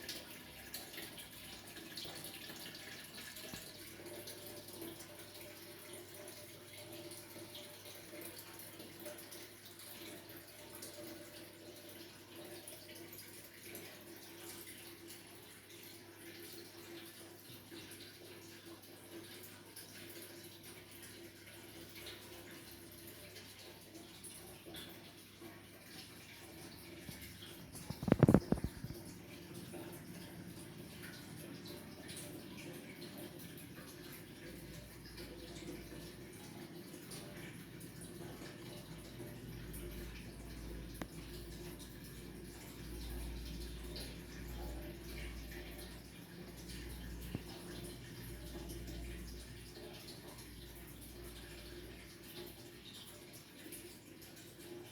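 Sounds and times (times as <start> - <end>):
water trickling and splashing: 0.0 - 54.9.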